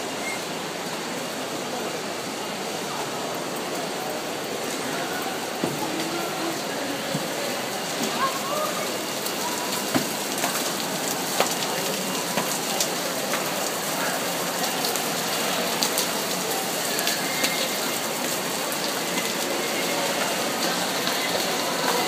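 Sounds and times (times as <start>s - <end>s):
heavy rain on glass roof: 0.0s - 22.0s.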